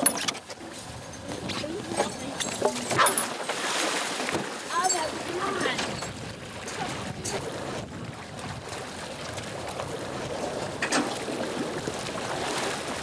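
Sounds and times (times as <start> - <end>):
floodwater sloshing and splashing: 0.0 - 13.0.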